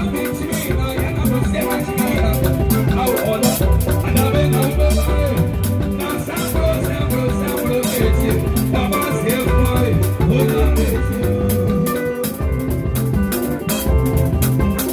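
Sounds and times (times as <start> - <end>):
drum kit and cymbals: 0.0 - 14.9
guitar lines: 0.0 - 14.9
low bass notes: 0.0 - 14.9.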